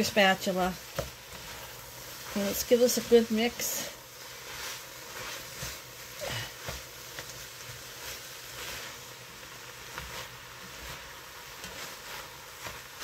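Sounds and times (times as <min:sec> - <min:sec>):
chicken and vegetables sizzling: 0:00.0 - 0:13.0
spatula scraping and knocking pot: 0:00.1 - 0:13.0.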